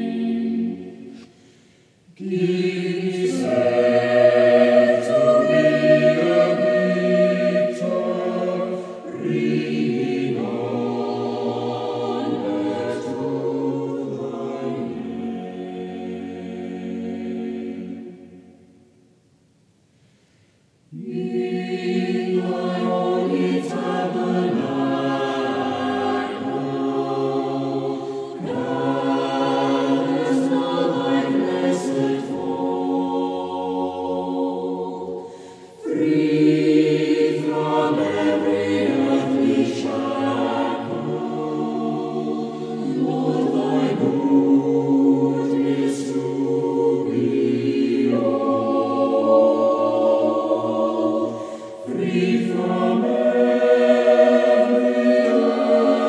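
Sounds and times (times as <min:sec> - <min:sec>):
choir singing a hymn: 0:00.0 - 0:19.0, 0:20.9 - 0:56.0.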